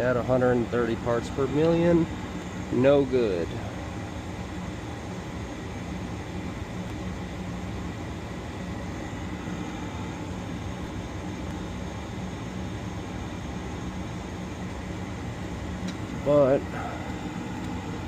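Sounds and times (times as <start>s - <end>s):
gas furnace running: 0.0s - 18.0s
low hum: 0.0s - 18.0s.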